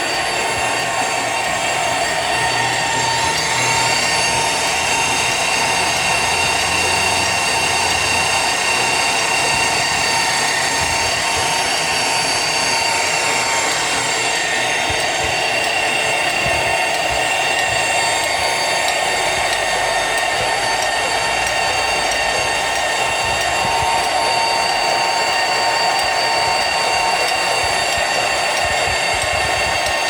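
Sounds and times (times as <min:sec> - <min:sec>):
power tool whining and rasping: 0:00.0 - 0:30.0.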